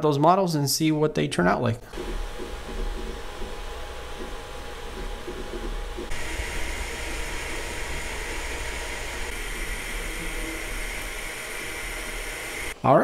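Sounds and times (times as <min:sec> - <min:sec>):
printer fan hiss: 0:02.0 - 0:12.8.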